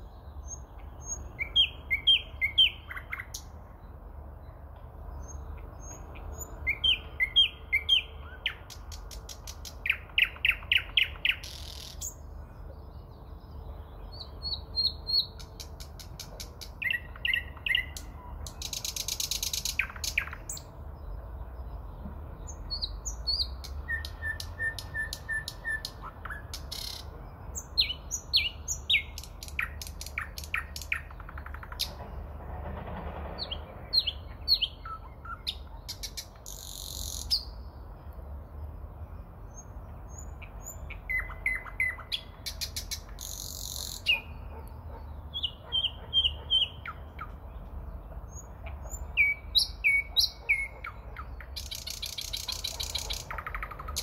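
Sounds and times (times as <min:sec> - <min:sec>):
nightingale singing: 0:00.0 - 0:32.0, 0:33.4 - 0:54.0.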